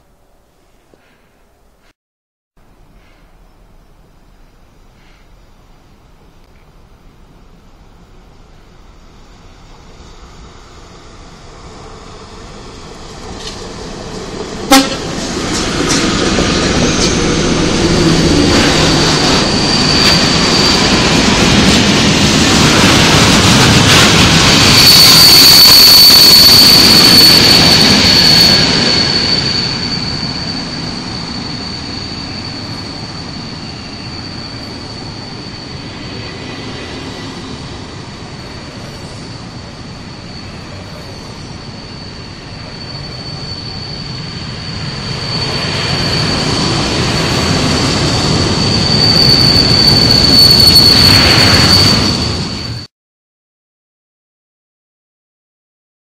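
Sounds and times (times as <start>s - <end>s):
train wheels rumbling: 2.9s - 52.9s.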